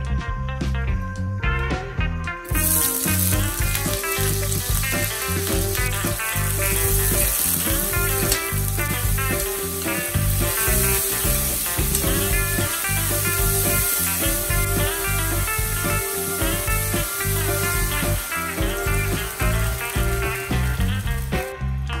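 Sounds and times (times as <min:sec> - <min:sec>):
background music: 0:00.0 - 0:22.0
vegetables sizzling in hot oil: 0:02.5 - 0:21.5.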